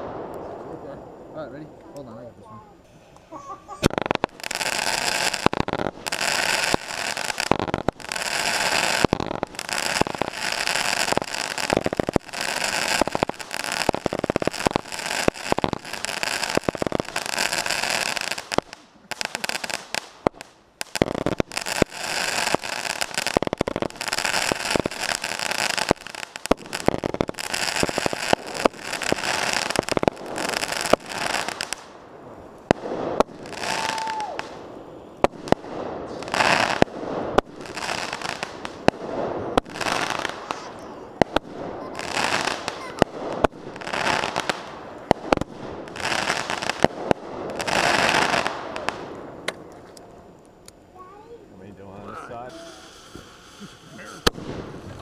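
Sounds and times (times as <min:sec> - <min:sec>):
fireworks shots and bursts: 0:00.0 - 0:02.1, 0:03.7 - 0:49.7, 0:52.0 - 0:55.0
dense firework crackle: 0:00.0 - 0:55.0.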